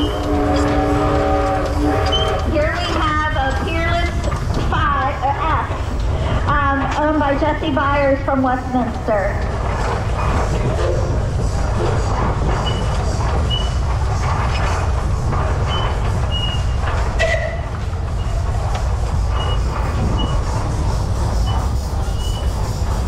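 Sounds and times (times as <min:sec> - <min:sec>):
steam traction engine rumbling: 0:00.0 - 0:23.0.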